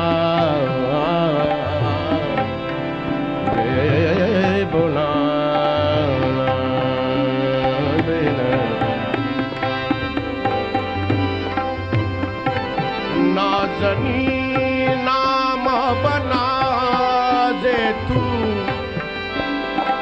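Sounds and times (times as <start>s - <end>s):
man singing wordless melody: 0.0s - 11.0s, 12.8s - 20.0s
tabla drumming: 0.0s - 20.0s.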